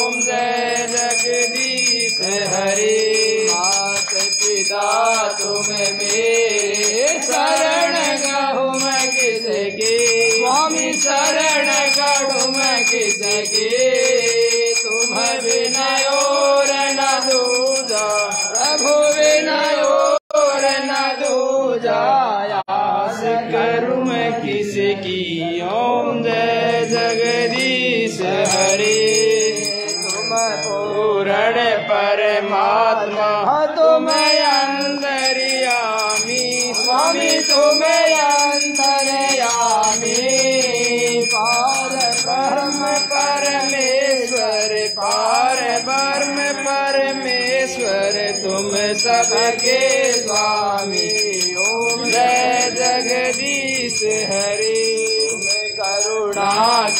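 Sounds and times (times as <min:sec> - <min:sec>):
hand bell ringing: 0:00.0 - 0:21.7, 0:26.8 - 0:31.0, 0:34.1 - 0:56.9.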